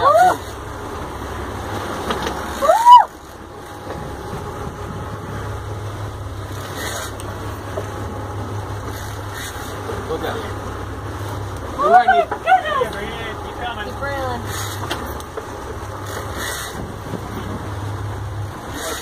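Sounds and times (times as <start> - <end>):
boat engine running: 0.0 - 19.0
wind and water noise: 0.0 - 19.0.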